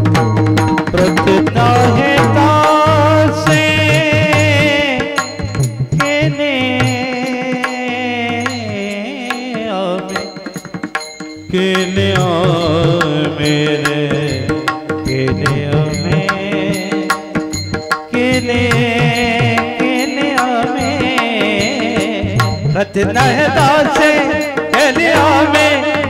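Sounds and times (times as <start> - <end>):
ornamented devotional melody: 0.0 - 26.0.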